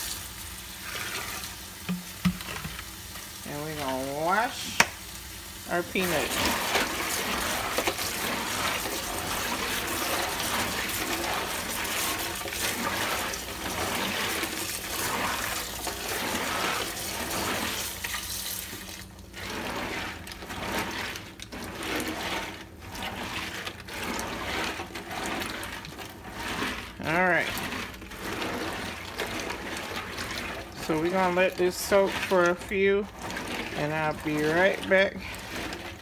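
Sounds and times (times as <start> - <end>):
tap water running into a pot: 0.0 - 36.0
hand swishing peanuts in water: 5.7 - 36.0.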